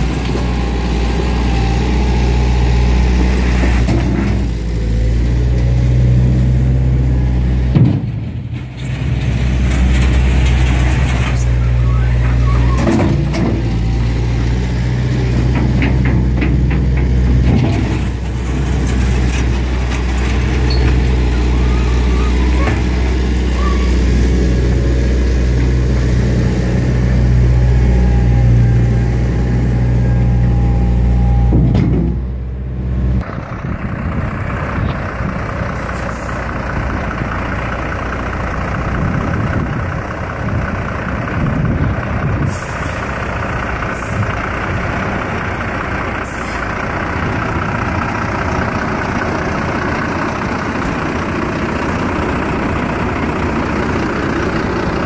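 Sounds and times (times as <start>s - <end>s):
diesel engine running steadily: 0.0s - 55.0s
heavy diesel engines idling: 0.0s - 55.0s.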